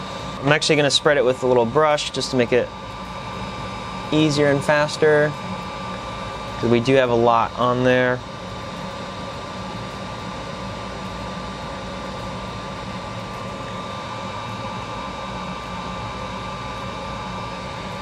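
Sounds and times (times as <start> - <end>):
background hiss and hum: 0.0 - 18.0
thin high whine: 0.0 - 18.0.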